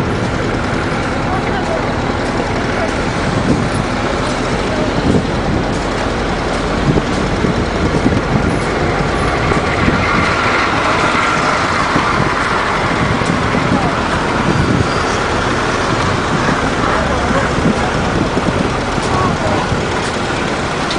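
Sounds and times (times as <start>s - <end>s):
trucks driving by: 0.0s - 20.9s.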